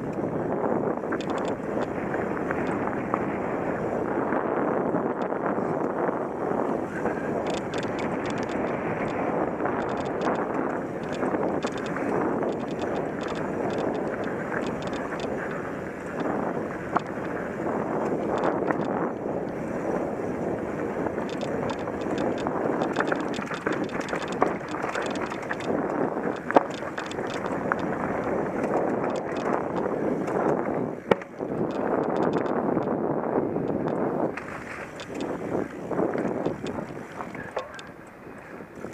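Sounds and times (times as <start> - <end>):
bike rattling clicks: 0.0 - 38.9
bike tyres on dirt: 0.0 - 38.9
wind on microphone: 0.0 - 38.9.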